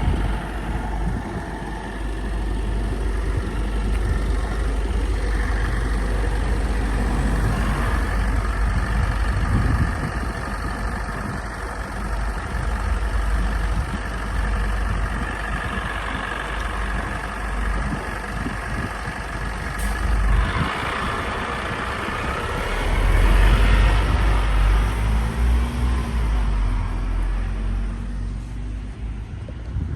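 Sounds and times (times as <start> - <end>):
bus engine running: 0.0 - 29.9.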